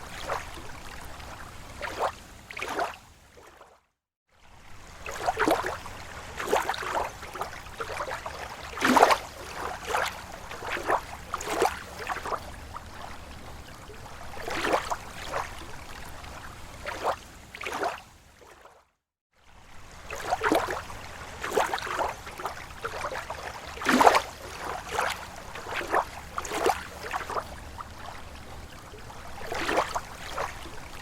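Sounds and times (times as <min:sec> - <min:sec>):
small waves lapping shore: 0:00.0 - 0:31.0.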